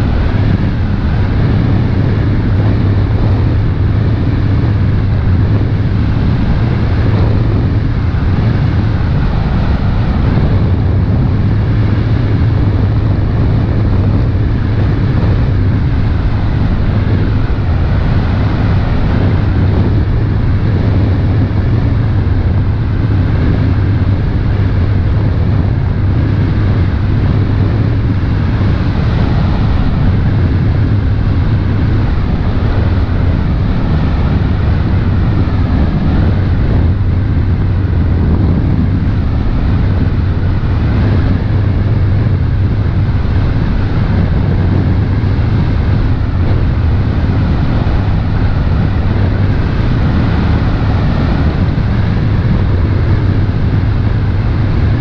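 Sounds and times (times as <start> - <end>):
boat engine drone: 0.0 - 55.0
wind noise on microphone: 0.0 - 55.0.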